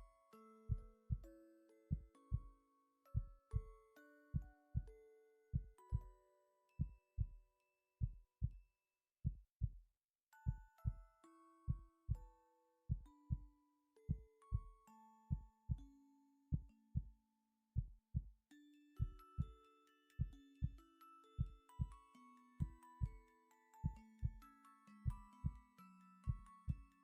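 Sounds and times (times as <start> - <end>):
music of slow held notes: 0.0 - 8.6, 10.3 - 17.4, 18.5 - 27.0.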